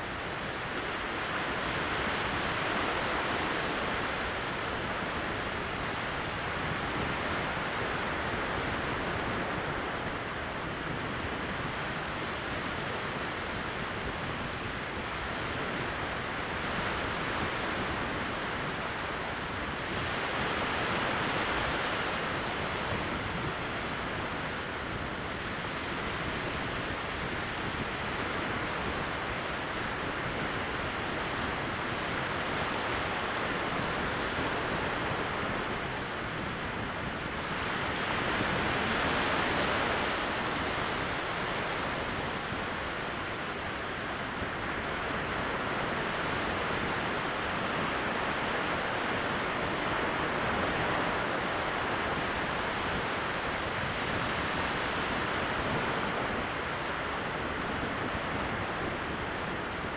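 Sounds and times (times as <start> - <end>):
small waves breaking gently: 0.0 - 59.9.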